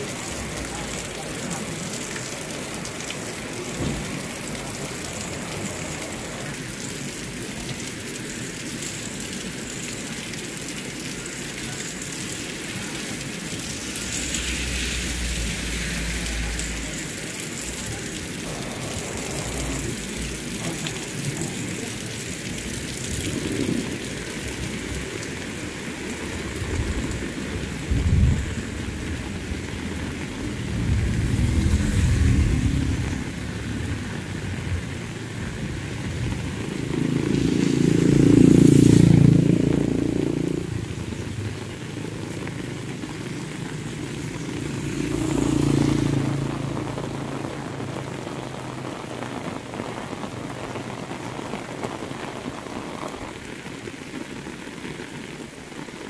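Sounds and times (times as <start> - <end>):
heavy rain falling: 0.0 - 56.0
vehicles passing on wet road: 0.0 - 56.0.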